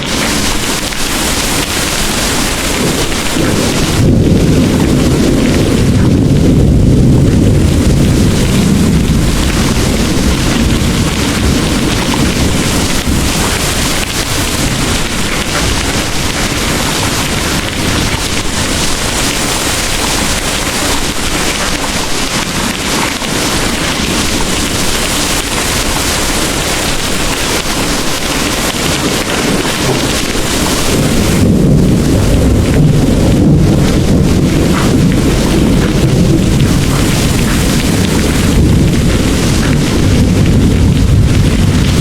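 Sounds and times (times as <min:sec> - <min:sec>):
heavy rain pouring: 0:00.0 - 0:42.0
rumble of thunder: 0:00.0 - 0:42.0.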